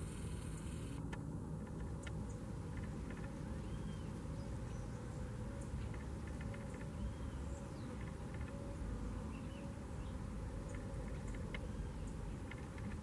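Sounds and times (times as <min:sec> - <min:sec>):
low outdoor rumble: 0:00.0 - 0:13.0
high chirps and ticks: 0:01.6 - 0:08.6, 0:09.4 - 0:13.0.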